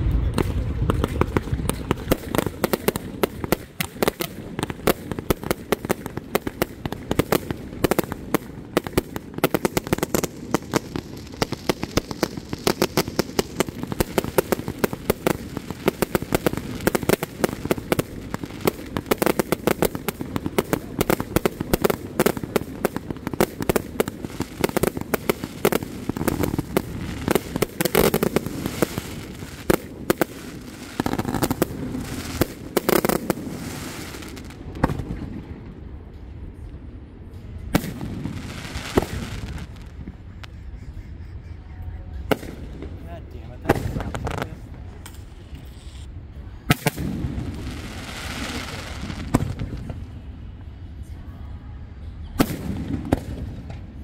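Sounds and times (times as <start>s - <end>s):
fireworks bursting and crackling: 0.0s - 51.1s, 52.2s - 54.0s.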